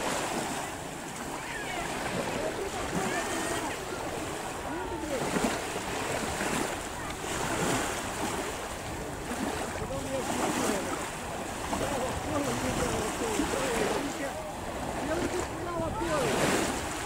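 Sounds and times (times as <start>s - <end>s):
surf washing onto sandy beach: 0.0s - 17.0s.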